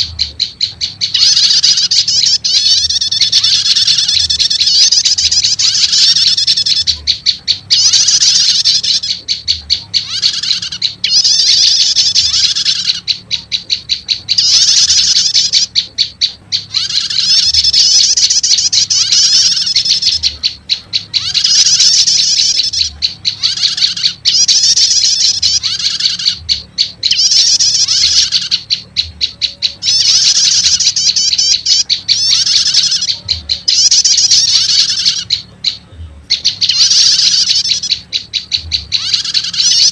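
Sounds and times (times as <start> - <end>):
bird trills and ticking notes: 0.0 - 39.9.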